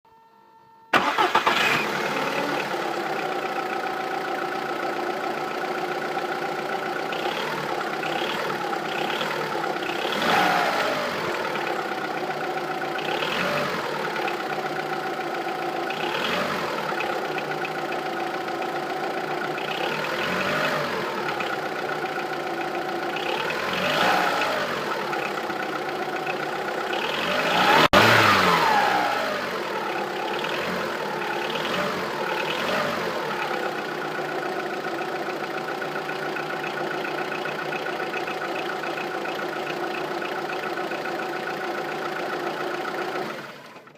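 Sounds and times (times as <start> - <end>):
car engine starting and revving: 0.9 - 43.9
engine clacking: 1.0 - 43.9.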